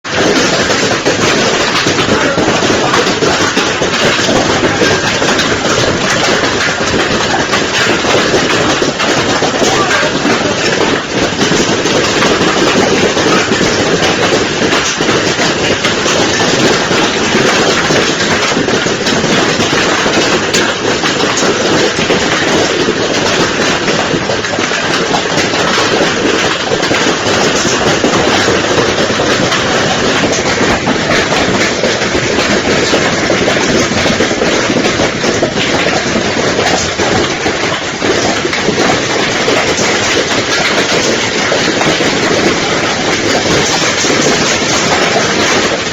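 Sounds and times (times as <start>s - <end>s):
hail clattering: 0.0s - 45.9s.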